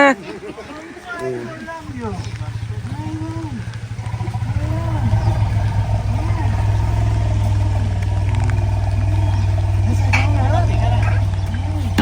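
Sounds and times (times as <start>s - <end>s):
vehicle engine humming: 0.0s - 12.0s
faint rising and falling tone: 1.6s - 12.0s.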